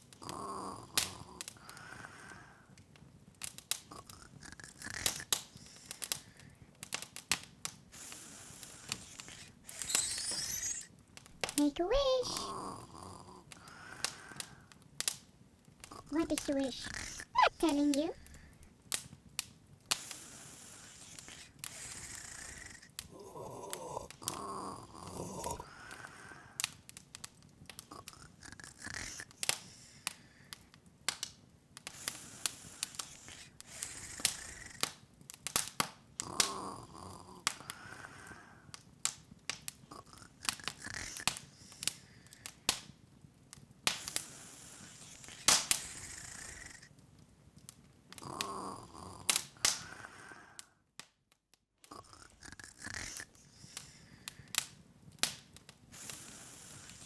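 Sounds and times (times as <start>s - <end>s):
open fire crackling: 0.0s - 57.0s.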